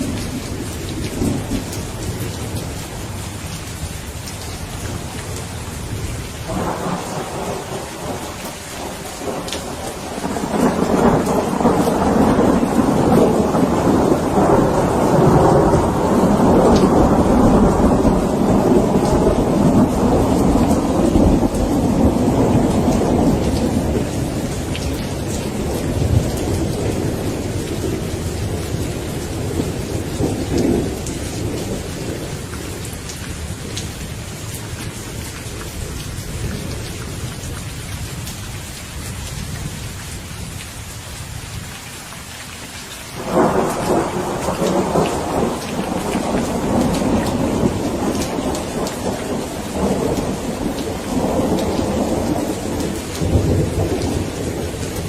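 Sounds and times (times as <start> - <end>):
rolling thunder: 0.0 - 3.6, 4.3 - 34.9, 43.2 - 55.0
steady rain: 0.0 - 55.0.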